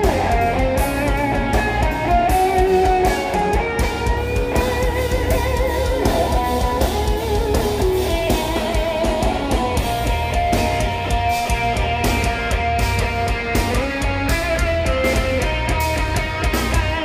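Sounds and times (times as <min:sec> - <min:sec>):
bass guitar: 0:00.0 - 0:17.0
drums and cymbals: 0:00.0 - 0:17.0
lead electric guitar melody: 0:00.0 - 0:17.0.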